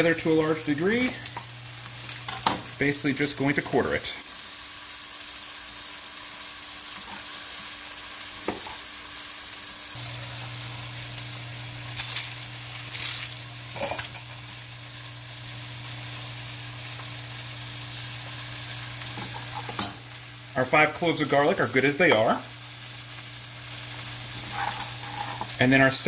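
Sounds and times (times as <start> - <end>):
meat sizzling in a pan: 0.0 - 26.0.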